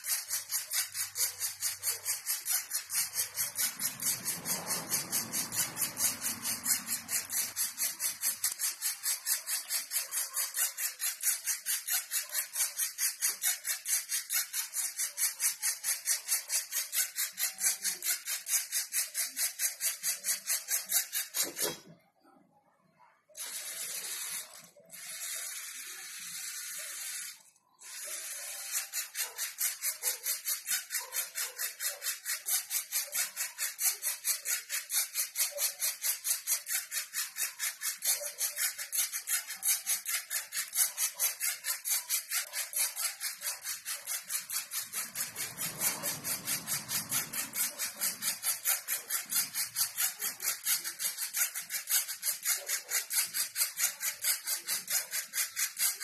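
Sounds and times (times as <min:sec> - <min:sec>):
small electric motors whirring: 0:00.0 - 0:22.0, 0:23.3 - 0:56.0.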